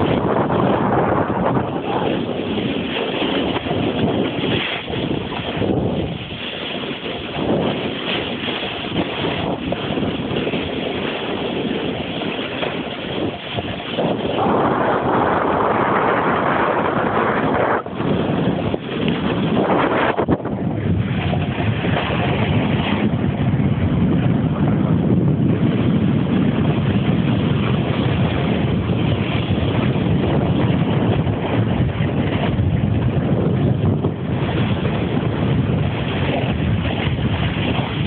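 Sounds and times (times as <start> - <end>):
snowboard scraping over snow: 0.0 - 38.0
wind on microphone: 0.0 - 38.0.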